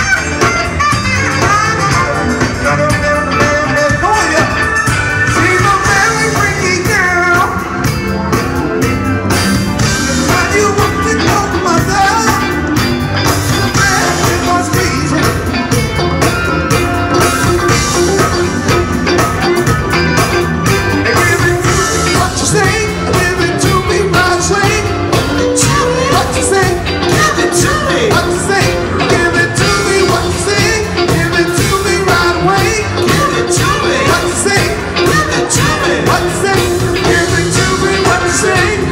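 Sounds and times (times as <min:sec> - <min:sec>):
lead singer singing: 0:00.0 - 0:08.9, 0:09.7 - 0:38.9
bass guitar: 0:00.0 - 0:38.9
drum kit: 0:00.0 - 0:38.9
electric guitars: 0:00.0 - 0:38.9.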